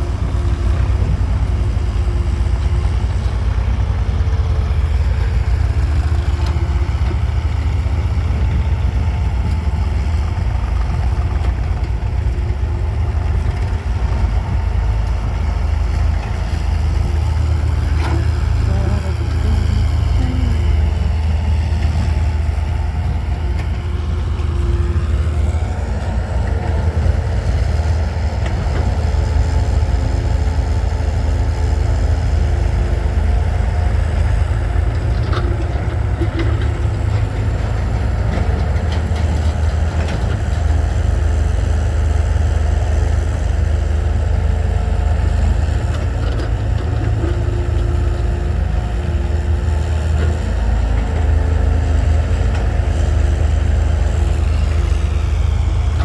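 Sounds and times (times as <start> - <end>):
diesel engine idling hum: 0.0 - 56.0.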